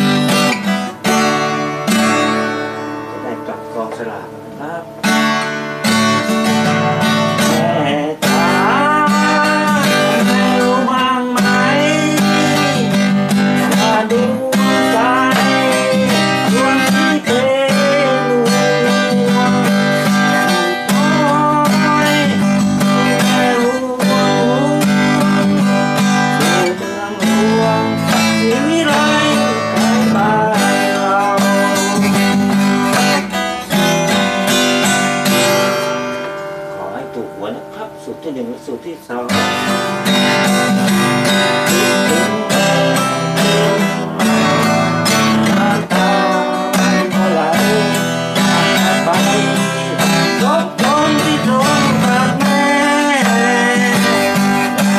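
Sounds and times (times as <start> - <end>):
acoustic guitar strummed: 0.0 - 54.9
pitch-bending guitar melody: 0.0 - 54.9.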